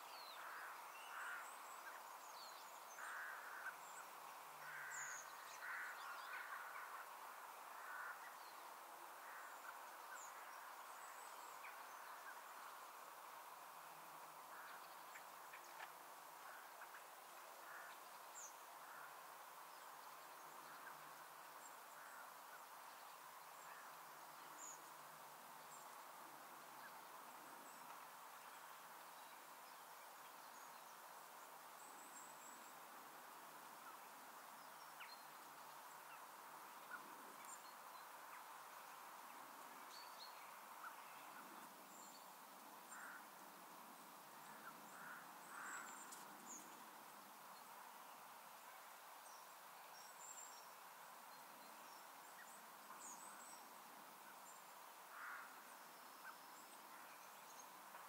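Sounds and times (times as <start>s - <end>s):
soft steady hiss: 0.0s - 58.0s.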